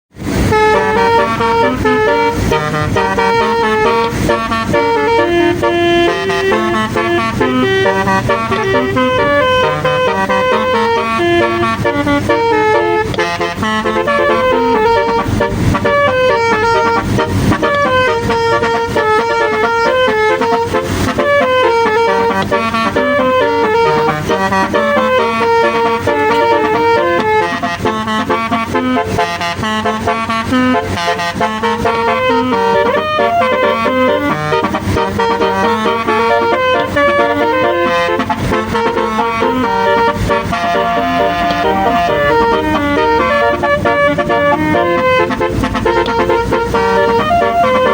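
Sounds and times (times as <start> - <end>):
multi-tone bus horn melody: 0.1 - 47.9
short noisy bursts: 0.2 - 47.9.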